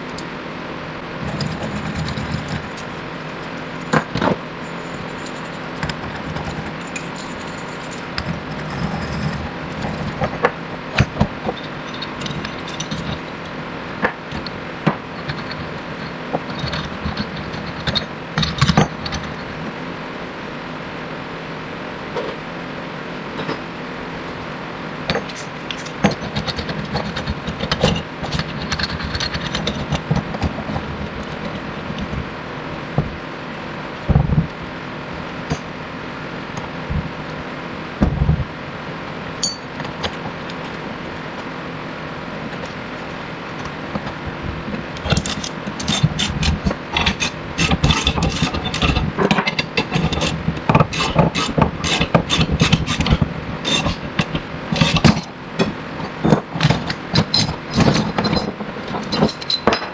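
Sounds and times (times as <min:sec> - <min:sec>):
background hum: 0:00.0 - 0:59.9.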